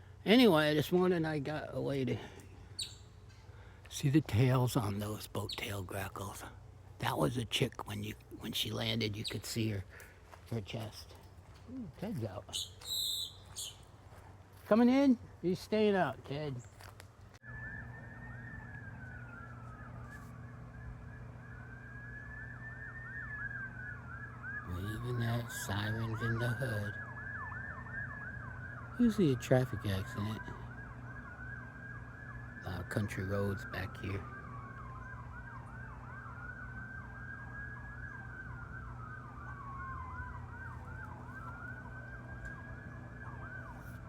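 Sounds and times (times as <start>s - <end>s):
siren yelp: 0.2s - 11.1s, 11.7s - 13.8s, 16.0s - 44.0s
siren wailing: 0.3s - 11.1s, 11.7s - 13.8s, 17.4s - 44.0s.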